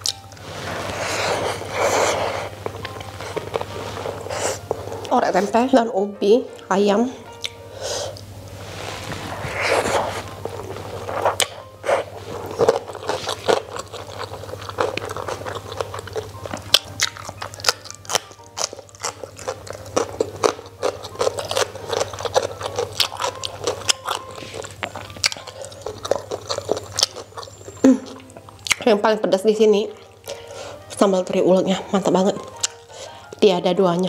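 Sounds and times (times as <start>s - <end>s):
chewing with crisp crunches: 0.0s - 5.2s, 7.3s - 8.3s, 9.3s - 28.9s, 29.9s - 30.9s, 32.4s - 33.4s.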